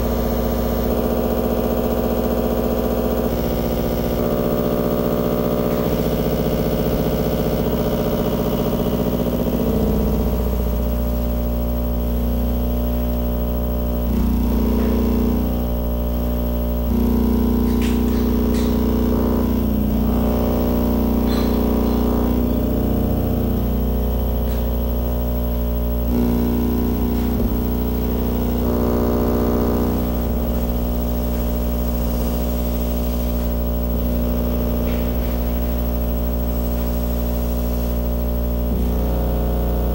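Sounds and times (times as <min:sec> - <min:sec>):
buzzing electronic drone: 0:00.0 - 0:39.9
deep hum: 0:00.0 - 0:39.9.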